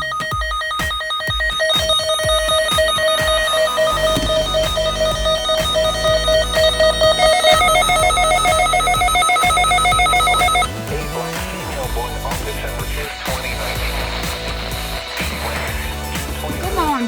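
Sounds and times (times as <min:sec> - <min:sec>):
radio alert alarm beeping: 0:00.0 - 0:17.0.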